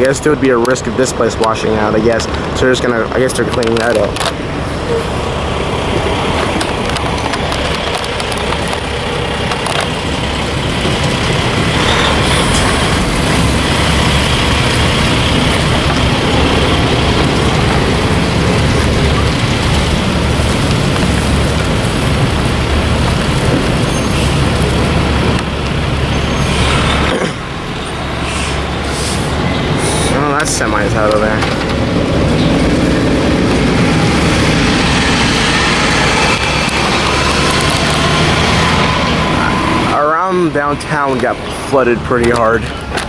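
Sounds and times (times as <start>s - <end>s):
diesel truck engine rumbling: 0.0s - 43.0s.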